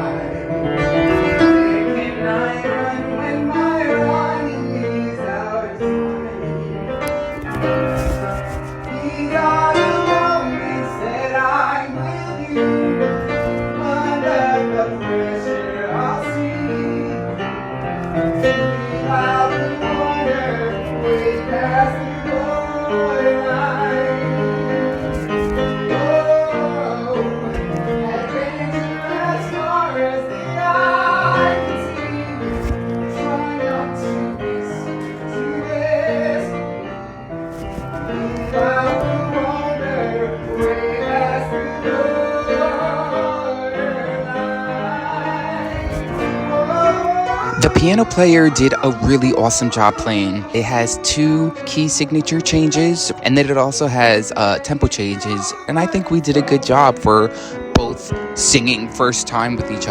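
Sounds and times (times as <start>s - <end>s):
person singing ballad: 0.0s - 37.1s, 37.7s - 59.9s
piano accompaniment: 0.0s - 59.9s.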